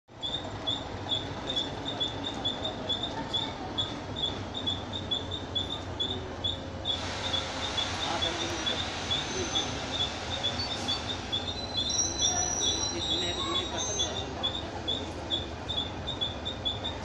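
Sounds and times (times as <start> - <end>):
bird chirping: 0.1 - 17.0
distant diesel locomotive rumble: 0.1 - 17.0.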